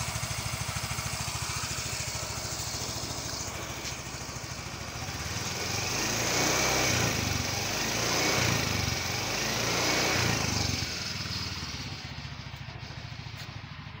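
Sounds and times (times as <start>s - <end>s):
scooter engine revving and idling: 0.0s - 14.0s.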